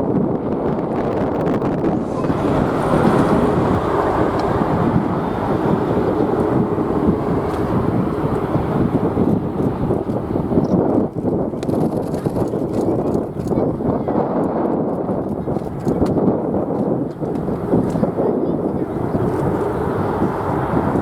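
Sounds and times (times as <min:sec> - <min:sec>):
jet airliner taking off: 0:00.0 - 0:12.9, 0:15.7 - 0:21.0
wind buffeting microphone: 0:00.0 - 0:21.0.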